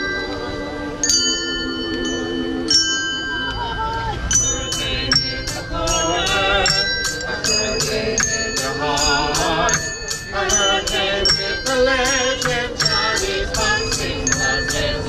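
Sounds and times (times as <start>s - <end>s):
jingling percussion beat: 0.0s - 15.0s
person singing with vibrato: 0.0s - 15.0s
ringing bell tones: 0.0s - 15.0s.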